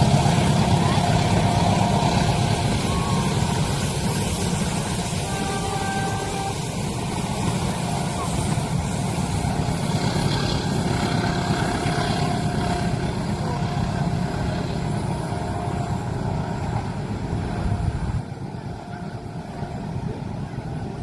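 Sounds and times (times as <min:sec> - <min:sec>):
train rumbling over crossing: 0:00.0 - 0:21.0.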